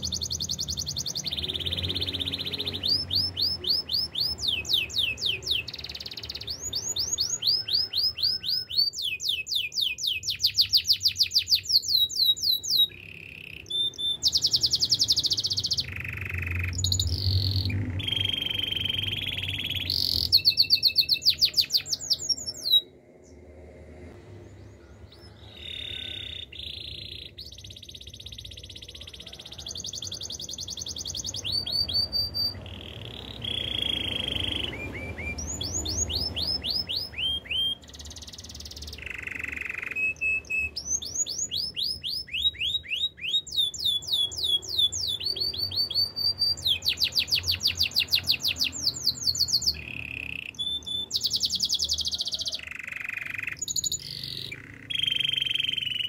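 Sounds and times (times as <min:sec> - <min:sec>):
canary singing trills: 0:00.0 - 0:23.0, 0:24.6 - 0:56.0.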